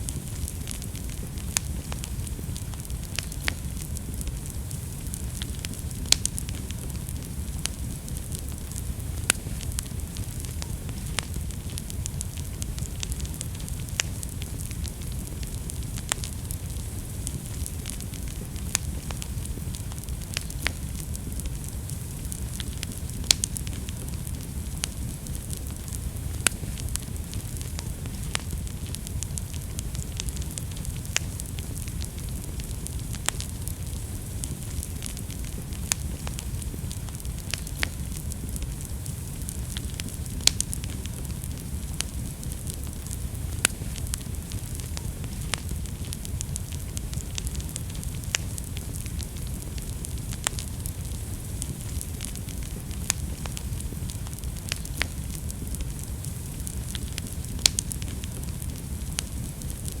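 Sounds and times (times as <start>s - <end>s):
wood fire crackling: 0.0s - 60.0s.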